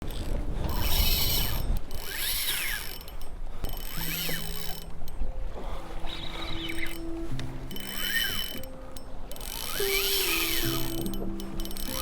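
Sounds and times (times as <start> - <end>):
fishing reel drag buzzing: 0.1 - 12.0.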